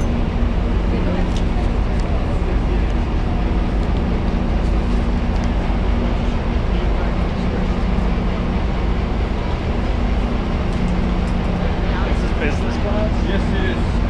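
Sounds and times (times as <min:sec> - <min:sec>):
diesel train engine idling: 0:00.0 - 0:14.0
faint passenger chatter: 0:00.0 - 0:14.0.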